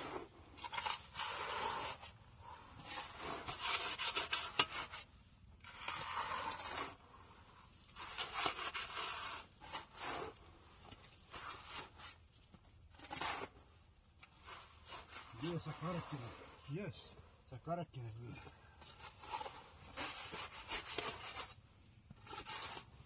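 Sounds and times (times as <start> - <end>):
shovels scraping concrete: 0.0 - 17.2, 18.0 - 23.0.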